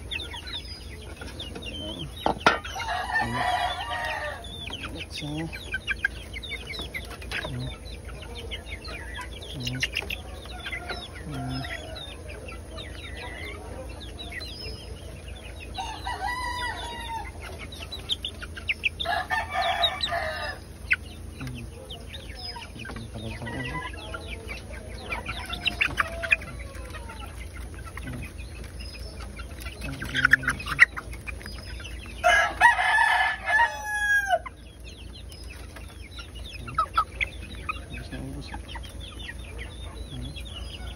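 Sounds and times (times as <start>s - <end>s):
chickens clucking: 0.0s - 40.9s
loud chicken calls: 0.0s - 40.9s.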